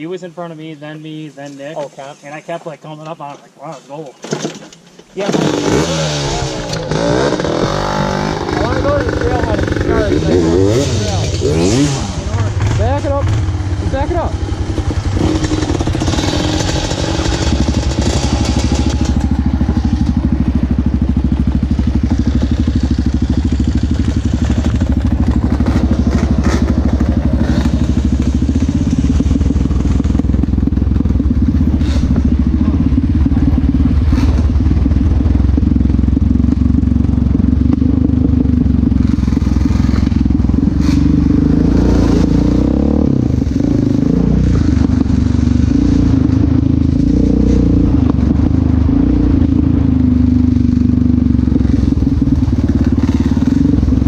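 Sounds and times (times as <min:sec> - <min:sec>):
quad bike engine running: 0:05.2 - 0:54.0.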